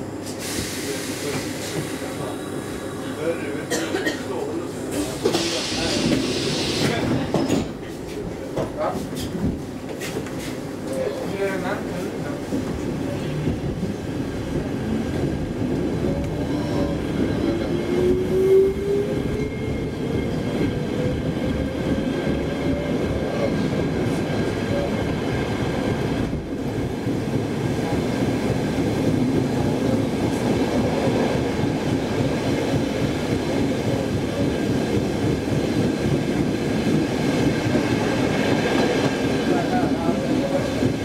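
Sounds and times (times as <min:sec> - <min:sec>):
train wheels rumbling on track: 0:00.0 - 0:41.0.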